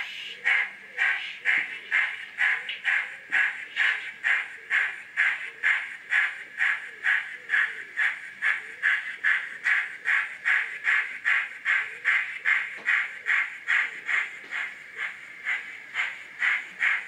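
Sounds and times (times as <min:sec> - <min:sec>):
model steam locomotive chuffs: 0:00.0 - 0:17.0.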